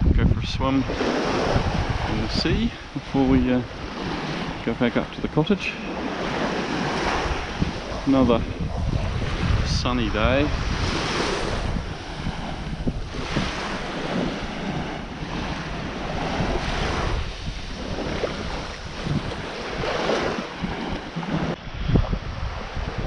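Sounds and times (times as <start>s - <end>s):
wind buffeting microphone: 0.0s - 23.0s
small waves washing onto beach: 0.6s - 23.0s.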